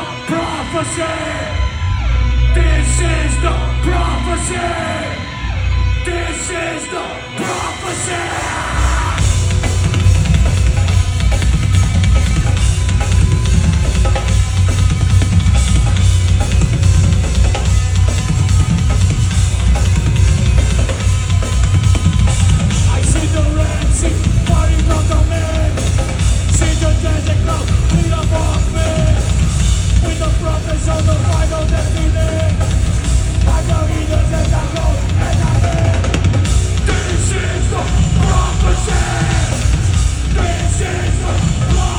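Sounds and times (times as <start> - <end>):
heavy metal band playing: 0.0 - 41.9
drum kit pounding: 7.4 - 41.9.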